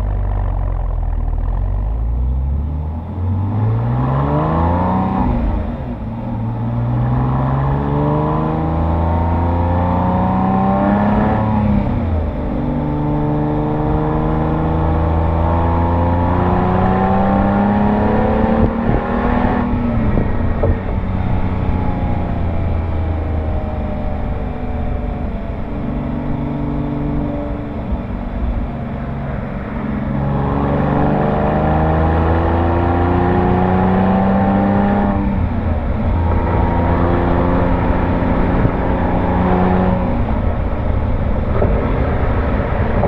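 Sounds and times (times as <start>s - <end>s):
car exhaust revving: 0.0s - 43.0s.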